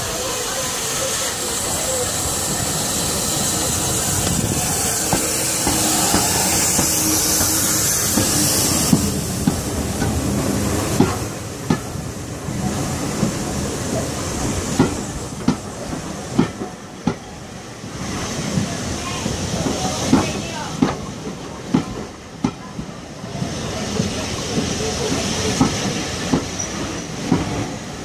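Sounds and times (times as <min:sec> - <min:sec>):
steam locomotive hiss: 0:00.0 - 0:28.0.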